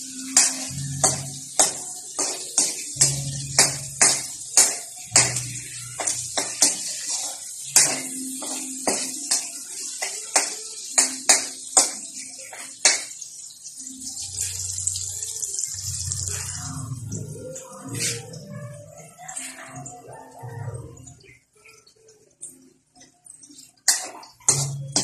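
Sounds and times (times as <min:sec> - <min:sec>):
oil sizzling: 0:00.0 - 0:19.2, 0:20.9 - 0:25.0.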